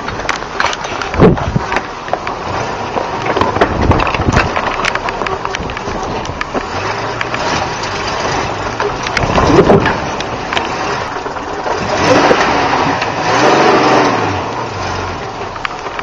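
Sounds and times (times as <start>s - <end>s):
knocks and clatter from truck: 0.0s - 13.1s
truck engine pulling in low gear: 0.0s - 16.0s
tyres crunching on stone: 0.0s - 16.0s.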